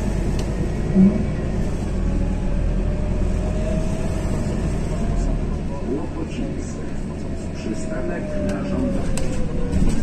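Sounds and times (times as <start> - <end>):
bus engine and tyres rumbling: 0.0 - 10.0.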